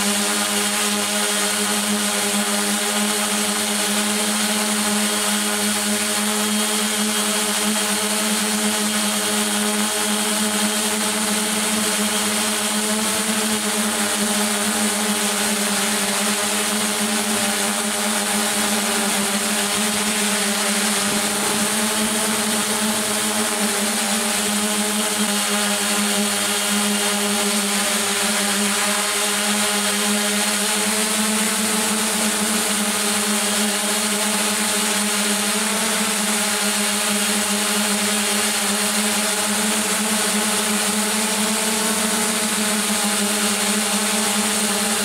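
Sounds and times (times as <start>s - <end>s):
drone motors buzzing: 0.0s - 45.0s.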